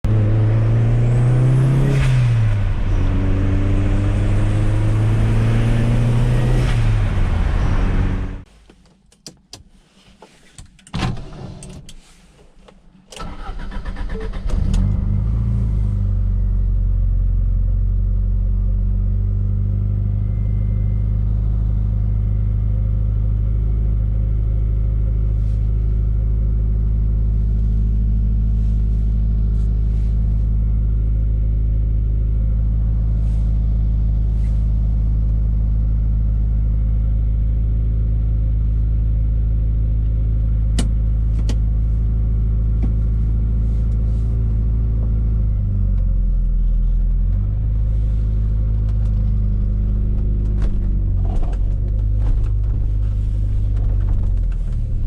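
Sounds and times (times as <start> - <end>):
car engine revving and idling: 0.0 - 8.5, 13.2 - 55.0.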